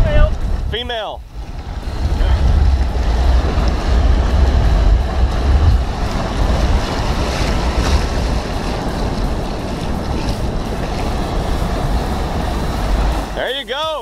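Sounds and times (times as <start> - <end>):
surf breaking and washing: 0.0 - 14.0
wind buffeting microphone: 0.0 - 14.0.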